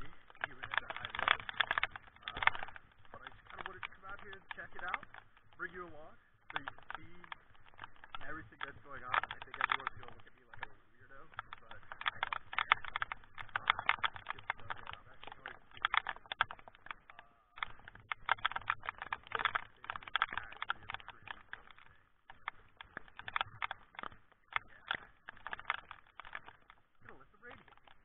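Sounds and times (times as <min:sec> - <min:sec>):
heavy rain tapping: 0:00.0 - 0:28.0.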